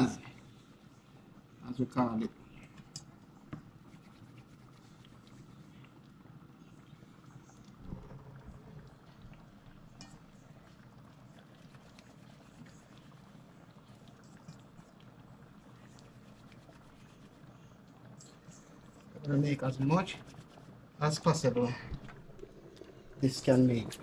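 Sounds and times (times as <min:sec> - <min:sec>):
pot simmering: 0:00.0 - 0:24.0.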